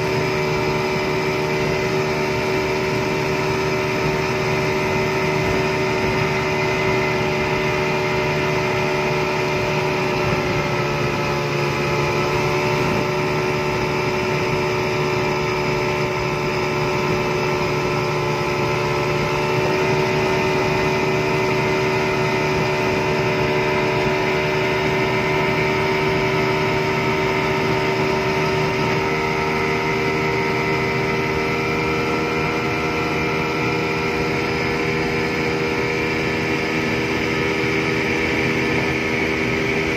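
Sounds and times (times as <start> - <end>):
outboard motor running at high speed: 0.0 - 39.9.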